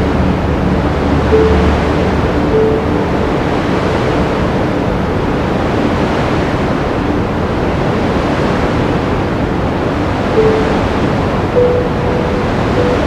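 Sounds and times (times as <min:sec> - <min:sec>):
sea waves washing ashore: 0:00.0 - 0:13.0.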